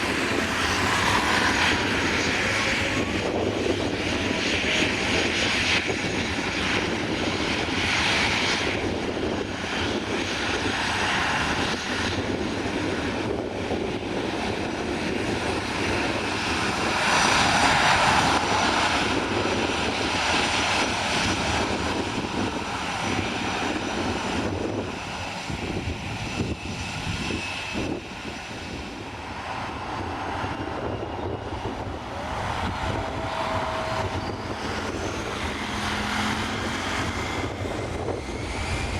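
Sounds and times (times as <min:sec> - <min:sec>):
airliner engines passing: 0:00.0 - 0:38.9.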